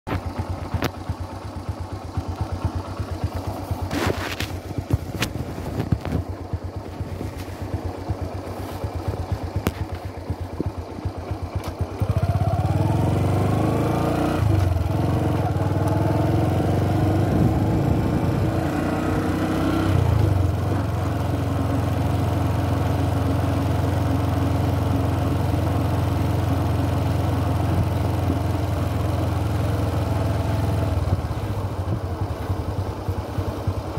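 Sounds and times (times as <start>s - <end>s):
motorcycle engine: 0.1s - 33.9s.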